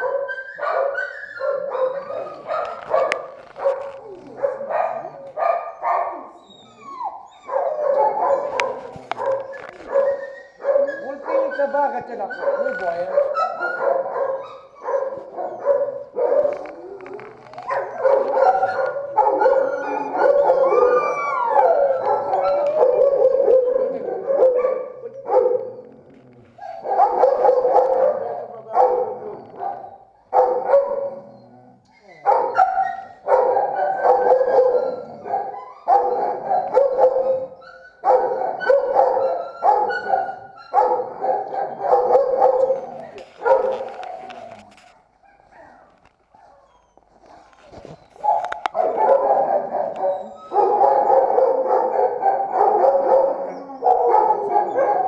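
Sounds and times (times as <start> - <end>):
dogs barking and howling: 0.0 - 55.0.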